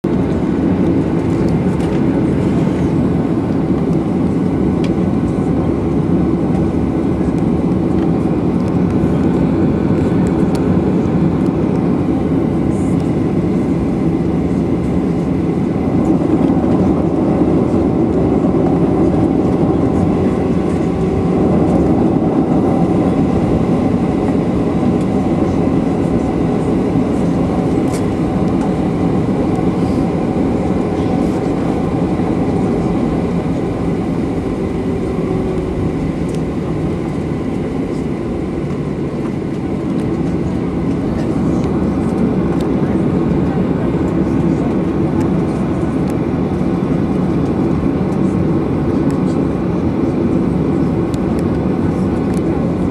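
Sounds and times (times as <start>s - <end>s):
airliner cabin rumble: 0.0s - 52.9s.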